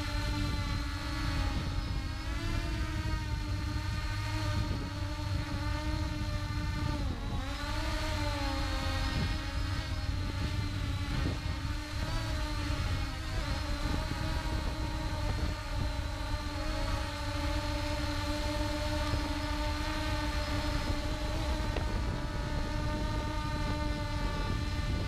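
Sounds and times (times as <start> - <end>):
drone propellers whining: 0.0 - 25.0
wind rumble on microphone: 0.0 - 25.0.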